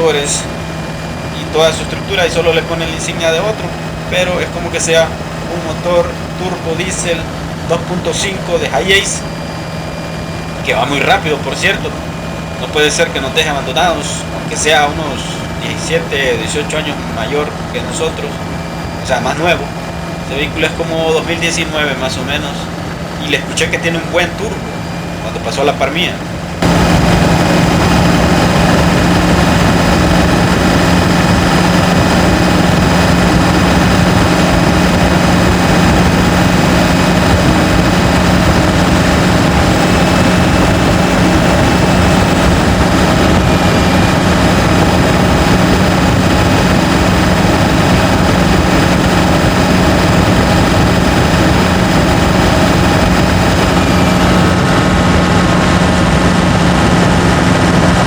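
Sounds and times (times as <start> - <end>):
engine whining: 0.0 - 58.0
road and wind noise: 0.0 - 58.0
van engine drone: 0.0 - 58.0.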